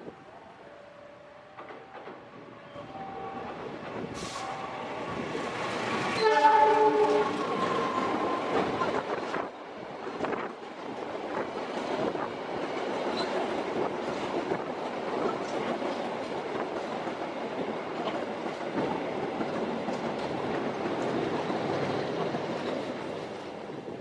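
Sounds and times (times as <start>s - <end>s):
train wheels rolling on rails: 1.4s - 24.0s.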